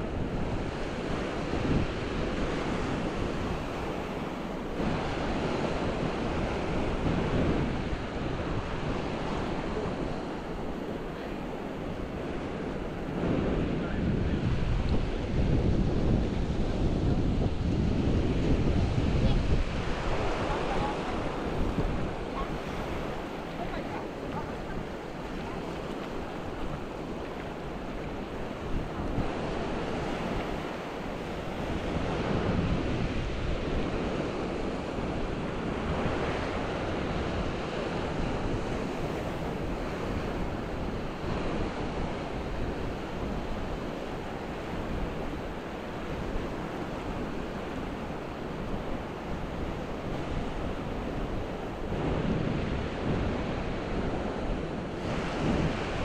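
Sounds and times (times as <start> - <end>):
ocean waves breaking: 0.0 - 56.0
wind buffeting microphone: 0.0 - 56.0.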